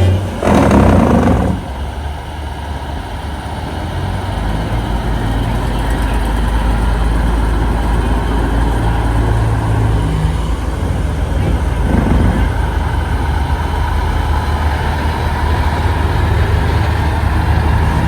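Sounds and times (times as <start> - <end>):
semi truck diesel engine running: 0.0 - 18.0.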